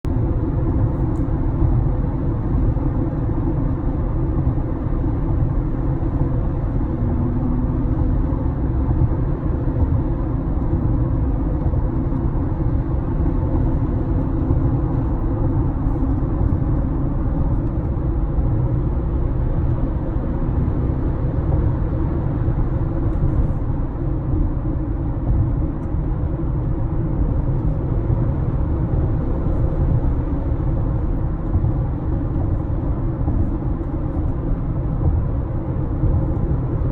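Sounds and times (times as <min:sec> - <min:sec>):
road and drivetrain rumble: 0:00.0 - 0:36.9.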